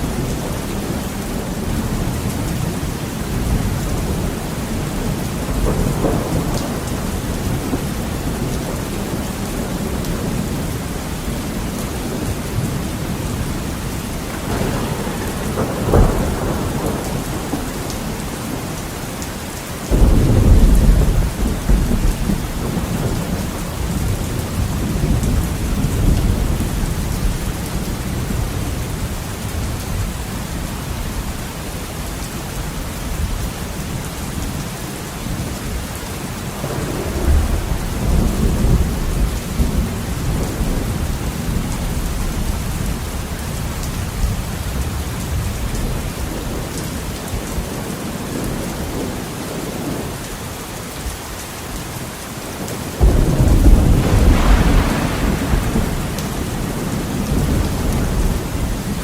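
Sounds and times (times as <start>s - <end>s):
thunder rumbling: 0.0s - 19.2s, 19.9s - 30.2s, 36.6s - 50.1s, 52.6s - 59.0s
heavy rain on window glass: 0.0s - 59.0s.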